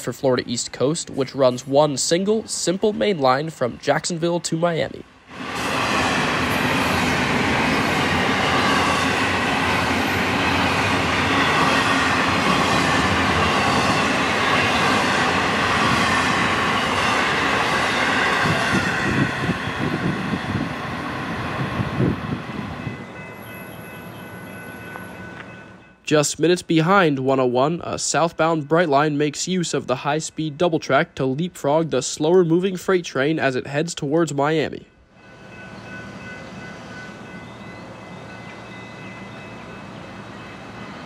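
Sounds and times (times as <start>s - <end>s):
freight train cars rolling past: 0.0s - 41.0s.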